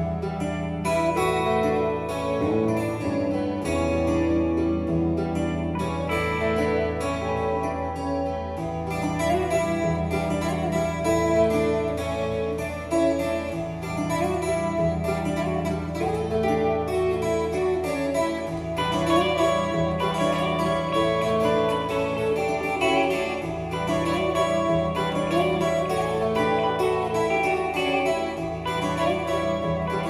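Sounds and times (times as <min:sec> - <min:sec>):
bluesy guitar instrumental: 0:00.0 - 0:30.0.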